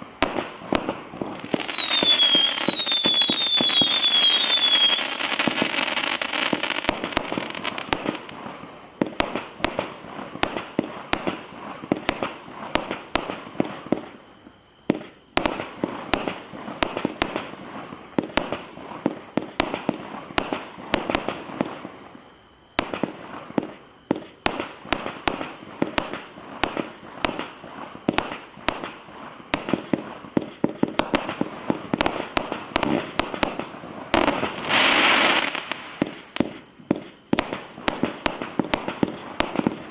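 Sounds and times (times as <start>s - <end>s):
fireworks banging and cracking: 0.0s - 22.0s, 22.8s - 39.9s
fireworks crackling hiss: 0.0s - 39.9s.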